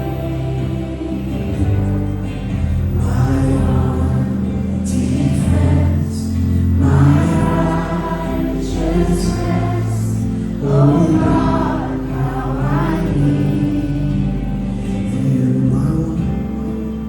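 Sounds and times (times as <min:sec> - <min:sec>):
acoustic accompaniment: 0:00.0 - 0:17.0
group singing worship song: 0:00.0 - 0:17.0.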